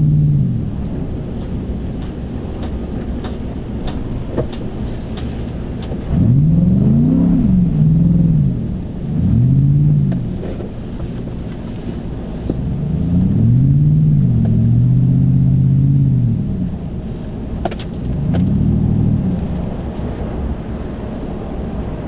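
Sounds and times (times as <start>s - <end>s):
pickup engine and tyres on snow: 0.0s - 22.0s.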